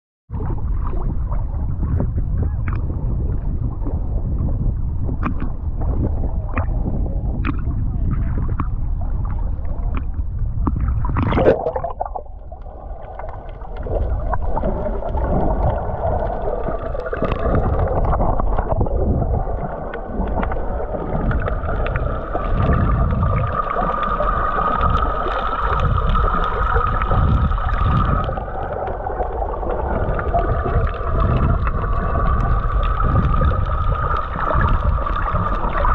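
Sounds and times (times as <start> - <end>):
boat engines hum underwater: 0.3 - 35.9
underwater gurgling: 0.3 - 35.9
sea water splashing: 5.0 - 35.9.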